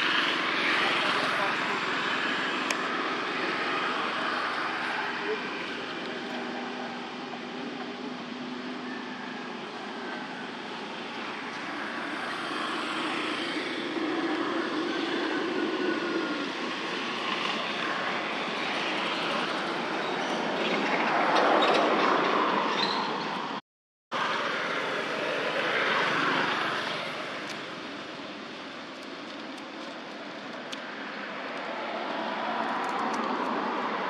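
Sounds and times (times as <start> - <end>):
passing motor traffic rumble: 0.0 - 23.6, 24.2 - 34.0.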